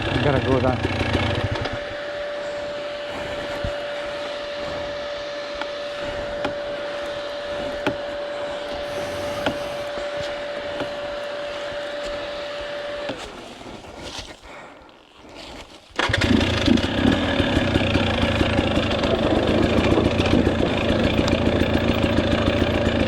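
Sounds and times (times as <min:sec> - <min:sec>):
dirt bike engine running: 0:00.0 - 0:13.4, 0:16.0 - 0:23.0.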